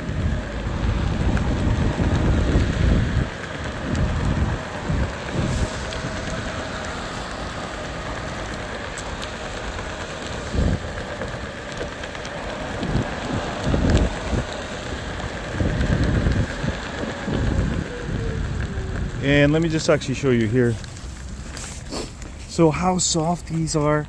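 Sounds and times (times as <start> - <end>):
wind buffeting microphone: 0.0 - 22.7
electric skateboard rolling: 0.0 - 23.0.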